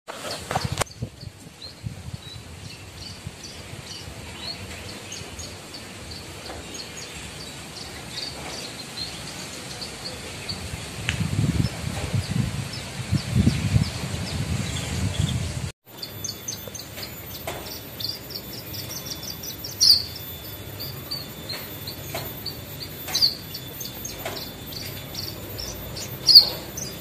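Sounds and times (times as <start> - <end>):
bird chirping and twittering: 0.5 - 27.0
low buffeting rumble on microphone: 0.5 - 27.0.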